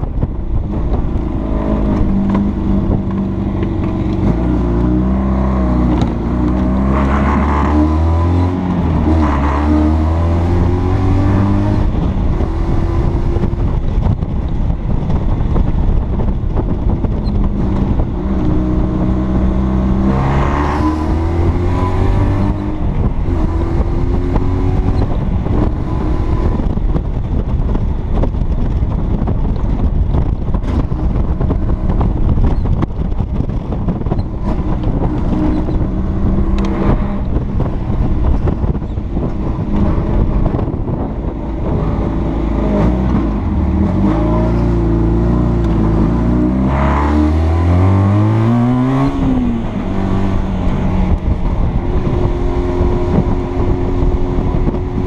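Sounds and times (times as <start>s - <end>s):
wind and road noise: 0.0s - 55.0s
small car engine accelerating: 0.2s - 55.0s.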